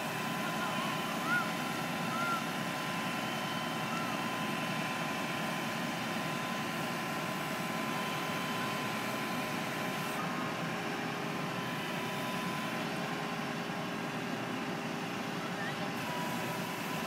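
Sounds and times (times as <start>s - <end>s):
hydraulic whine: 0.0s - 17.0s.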